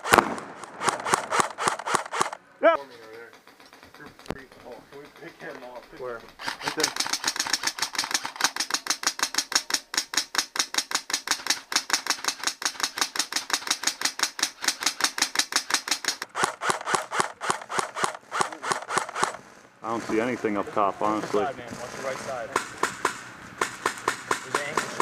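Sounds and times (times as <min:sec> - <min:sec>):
airsoft rifle firing rapidly: 0:00.0 - 0:02.4, 0:03.4 - 0:20.4, 0:21.9 - 0:25.0.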